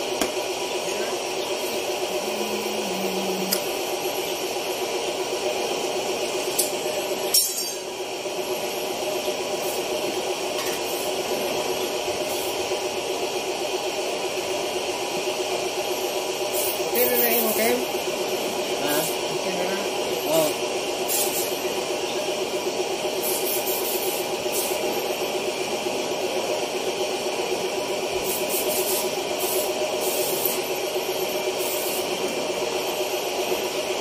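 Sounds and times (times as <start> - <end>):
machinery humming: 0.0 - 34.0.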